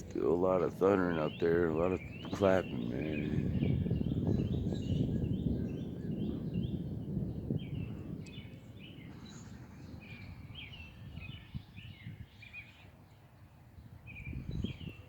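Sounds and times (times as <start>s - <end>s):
distant thunder rumbling: 0.0s - 12.4s.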